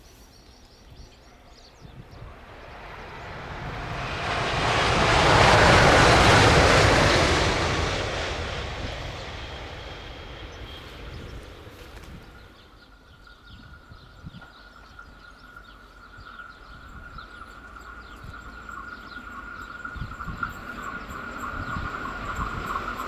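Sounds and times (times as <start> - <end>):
birds chirping: 0.0 - 23.0
low train rumble: 0.7 - 23.0
train high whine: 1.1 - 23.0.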